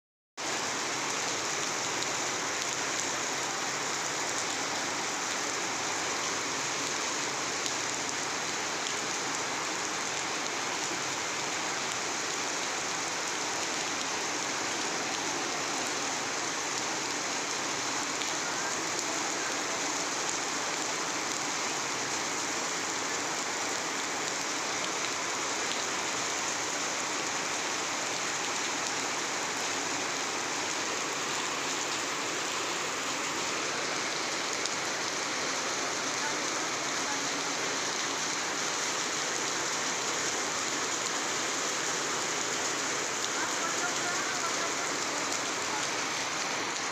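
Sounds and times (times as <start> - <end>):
steady rain falling: 0.4 - 46.9.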